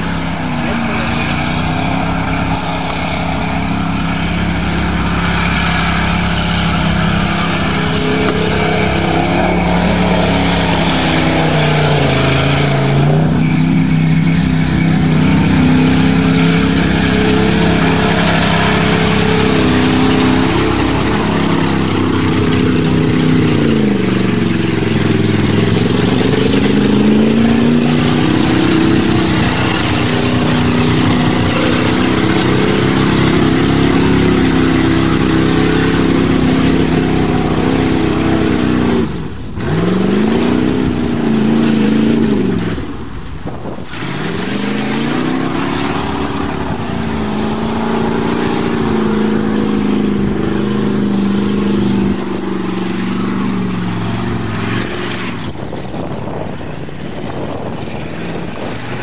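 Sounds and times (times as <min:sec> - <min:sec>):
rushing mud and water spray: 0:00.0 - 0:59.0
truck engine revving hard: 0:00.0 - 0:59.0.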